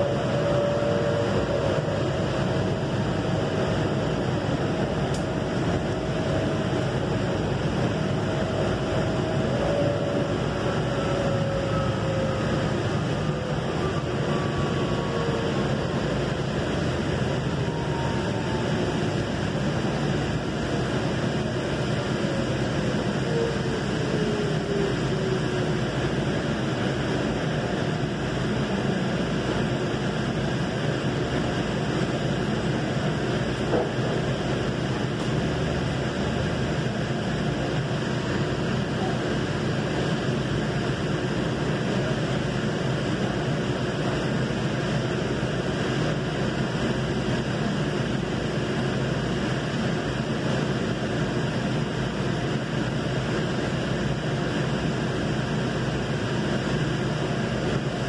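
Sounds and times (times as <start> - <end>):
light rail car rumble and hiss: 0.0 - 58.0.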